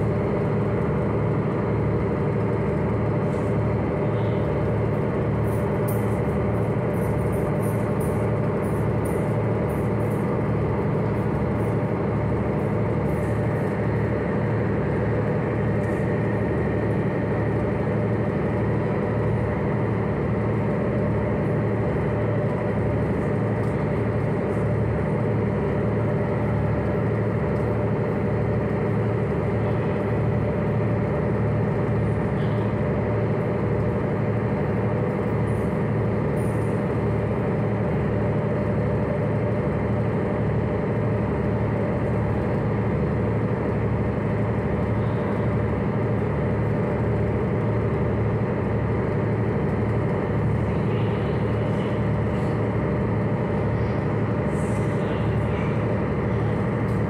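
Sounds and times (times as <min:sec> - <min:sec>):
ship engine droning: 0:00.0 - 0:57.0.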